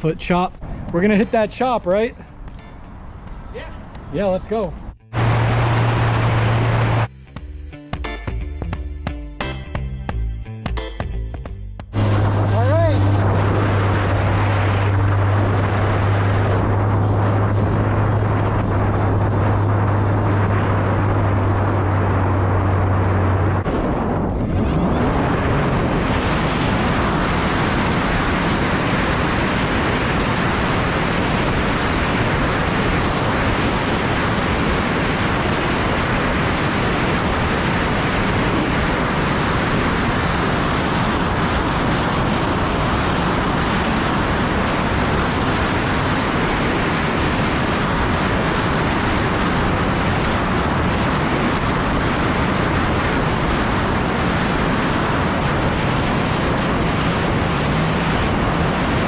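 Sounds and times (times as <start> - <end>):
wind rush on microphone: 0.0 - 7.1, 11.9 - 59.0
jet ski engine: 5.2 - 7.1, 12.0 - 59.0.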